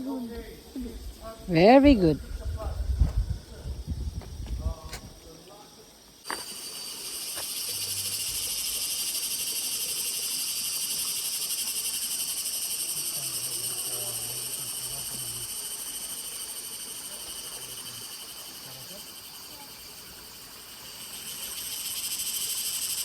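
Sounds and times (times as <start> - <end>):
insects chorus shrilling: 0.0 - 23.0.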